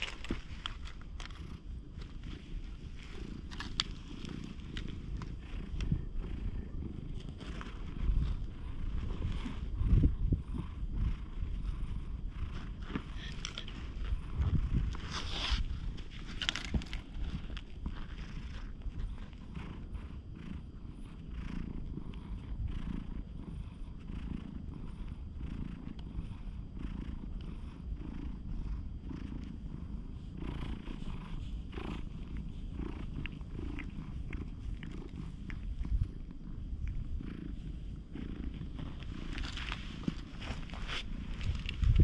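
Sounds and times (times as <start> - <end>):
hand rustling on fur: 0.0 - 26.4, 27.0 - 42.0
cat purring: 0.0 - 42.0.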